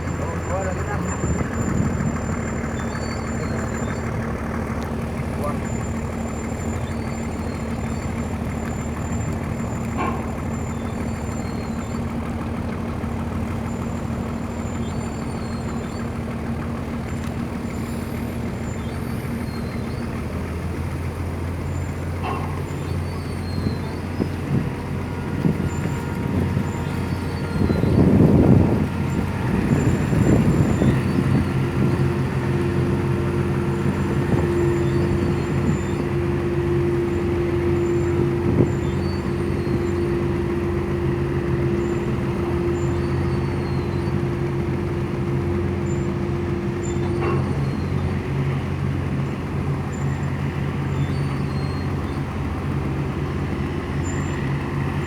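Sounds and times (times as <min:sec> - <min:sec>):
tugboat diesel engine droning: 0:00.0 - 0:55.0.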